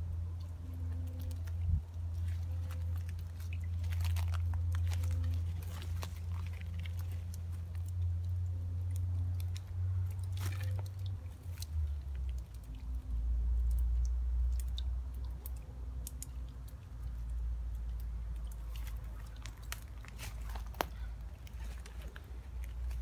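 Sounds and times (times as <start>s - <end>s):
brambles and twigs crackling: 0.0s - 23.0s.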